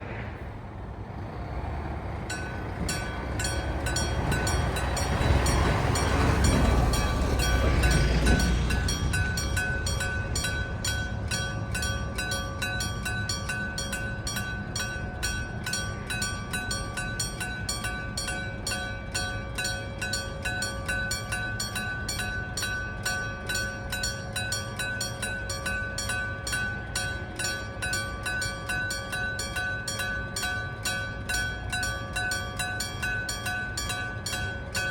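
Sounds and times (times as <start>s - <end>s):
level crossing warning bell: 2.1s - 34.9s.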